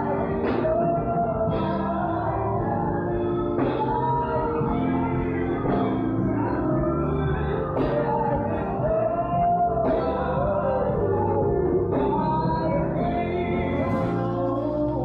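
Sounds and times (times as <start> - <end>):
bass line: 0.0 - 15.0
keyboard chords: 0.0 - 15.0
voices singing: 0.0 - 15.0.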